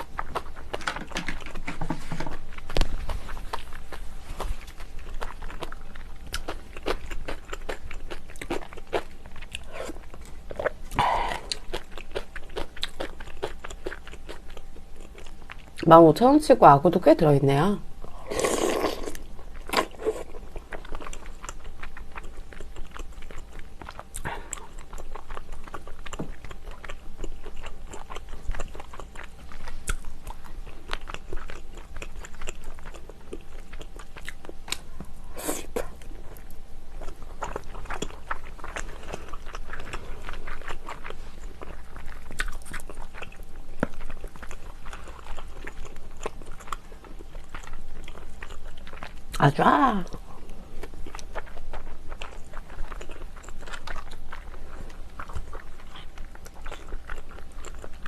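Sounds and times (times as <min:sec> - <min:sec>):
person chewing with wet mouth sounds: 0:00.0 - 0:15.9, 0:18.0 - 0:58.0.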